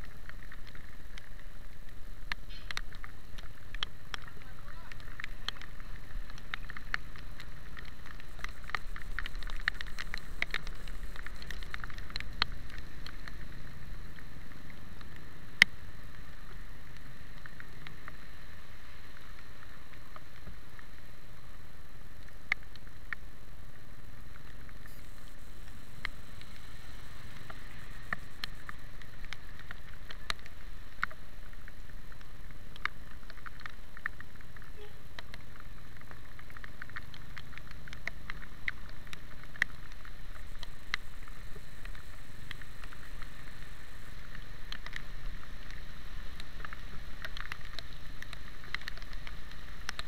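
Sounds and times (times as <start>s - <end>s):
raindrops ticking on camera: 0.0s - 50.0s.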